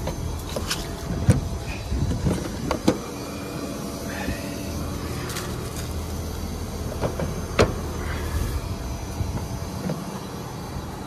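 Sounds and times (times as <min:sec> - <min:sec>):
heat pump low hum: 0:00.0 - 0:11.0.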